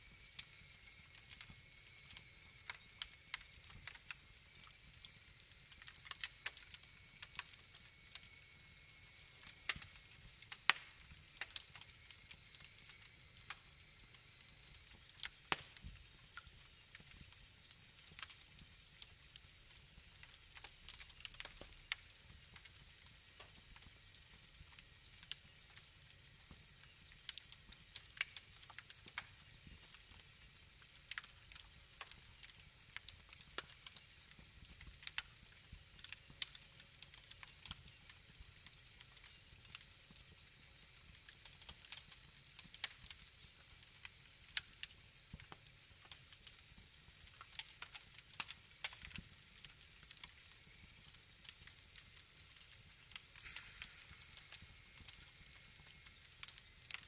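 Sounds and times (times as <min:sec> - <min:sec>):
fire pops and snaps: 0:00.0 - 0:57.0
soft steady hiss: 0:00.0 - 0:57.0
wood fire crackling: 0:00.0 - 0:57.0.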